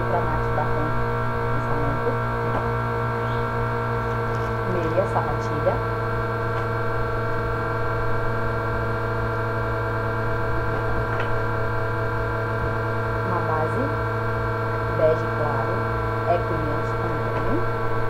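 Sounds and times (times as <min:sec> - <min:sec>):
electric fan humming: 0:00.0 - 0:18.0
whining tones: 0:00.0 - 0:18.0.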